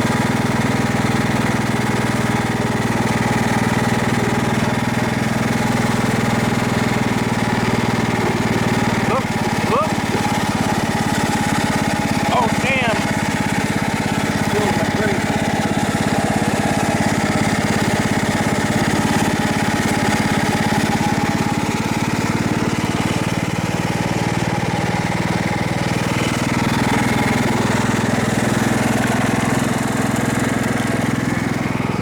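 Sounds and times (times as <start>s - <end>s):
riding lawn mower engine running: 0.0s - 32.0s.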